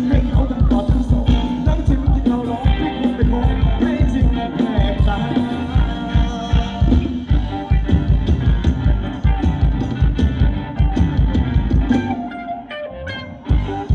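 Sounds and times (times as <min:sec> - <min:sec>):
driving drum beat: 0:00.0 - 0:12.4, 0:13.4 - 0:13.9
live band playing dance music: 0:00.0 - 0:13.9.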